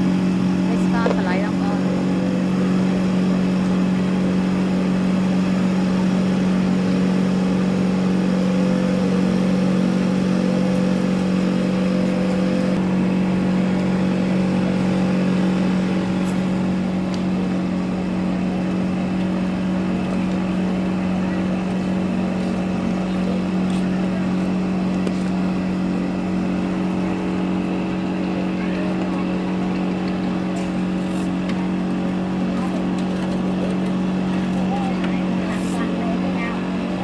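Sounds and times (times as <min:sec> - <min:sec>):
cotton candy machine motor hum: 0:00.0 - 0:37.0.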